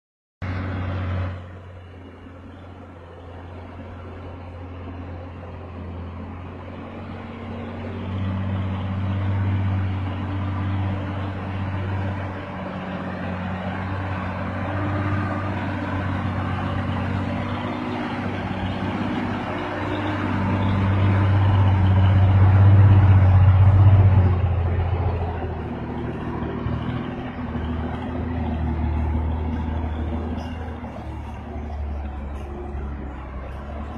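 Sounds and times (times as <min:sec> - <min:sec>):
truck engine droning: 0:00.4 - 0:33.9.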